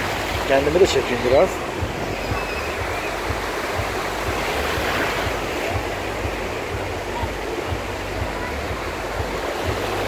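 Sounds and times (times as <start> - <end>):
small waves breaking: 0.0 - 10.0
wind on microphone: 0.0 - 10.0.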